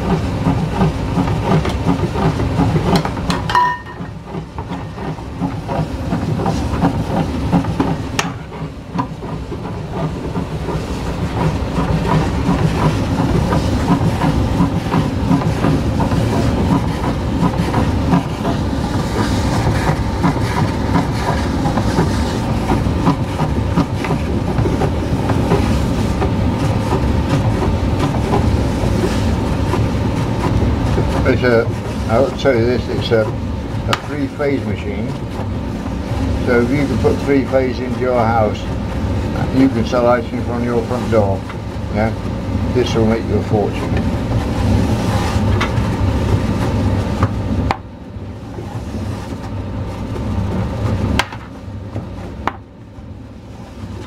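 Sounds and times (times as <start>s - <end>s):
ice cream freezer rattling: 0.0s - 54.0s.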